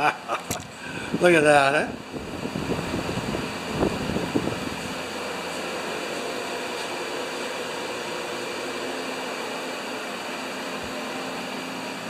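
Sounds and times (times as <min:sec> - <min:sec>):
fan hiss with faint hum: 0:00.0 - 0:12.0.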